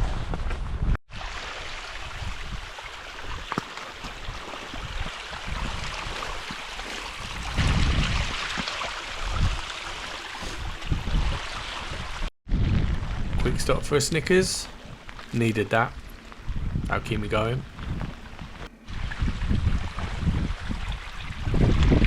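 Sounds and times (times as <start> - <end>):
wind buffeting microphone: 1.8 - 22.0.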